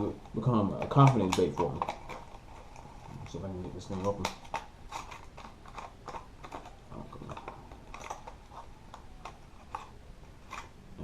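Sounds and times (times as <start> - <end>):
plastic packaging crackling: 0.0 - 11.0.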